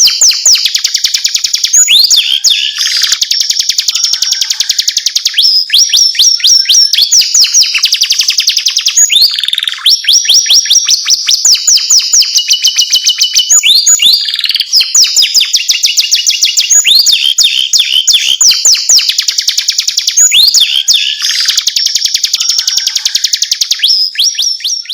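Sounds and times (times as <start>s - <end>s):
canary singing trills: 0.0s - 24.9s.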